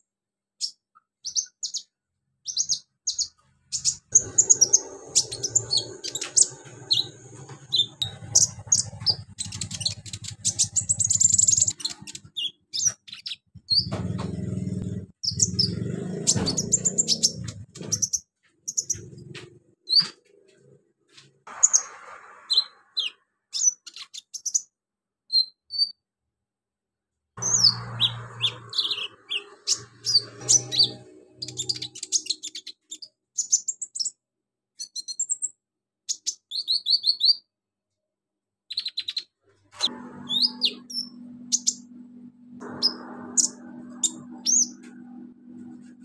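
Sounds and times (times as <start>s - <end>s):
bird chirping and trilling: 0.6s - 20.2s, 21.5s - 26.0s, 27.4s - 34.2s, 34.8s - 37.5s, 38.7s - 46.0s.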